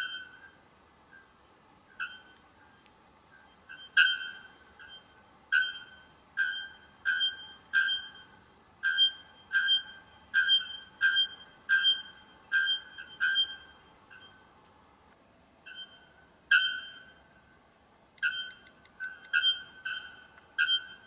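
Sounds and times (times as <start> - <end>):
bird calling with bell-like notes: 0.0 - 14.6, 15.6 - 21.0.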